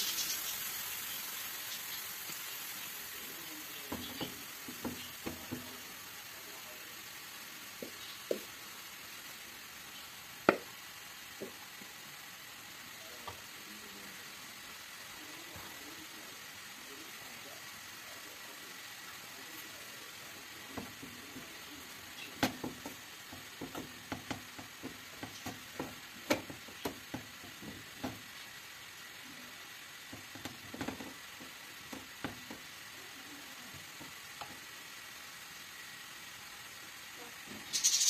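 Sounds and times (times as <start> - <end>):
herbs sizzling in a pan: 0.0 - 38.0.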